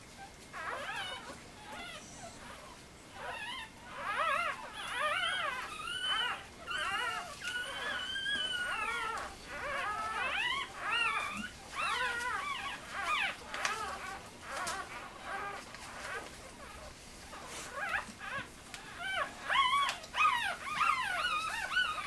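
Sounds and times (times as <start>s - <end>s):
puppies crying: 0.5s - 22.0s.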